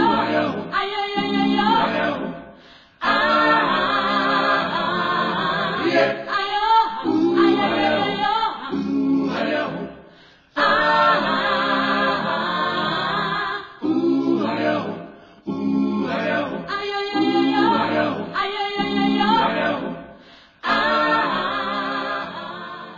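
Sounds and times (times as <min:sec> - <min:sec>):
a cappella choir singing: 0:00.0 - 0:22.9.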